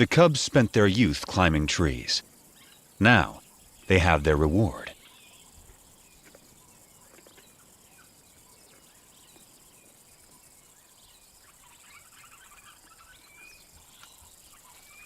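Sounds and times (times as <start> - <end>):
low insect hum: 0.0 - 15.0.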